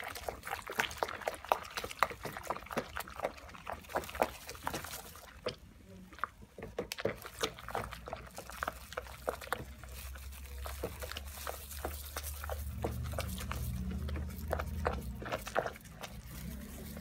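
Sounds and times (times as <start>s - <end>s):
water sloshing in basin: 0.0s - 17.0s.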